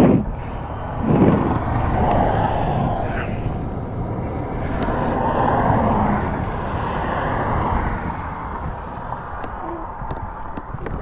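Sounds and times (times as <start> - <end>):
cars passing on a highway: 0.0 - 11.0.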